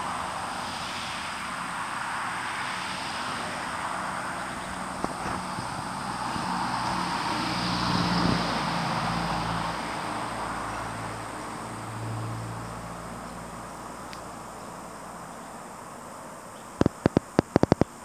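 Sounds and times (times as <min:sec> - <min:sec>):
vehicle passing by: 0:00.0 - 0:15.4.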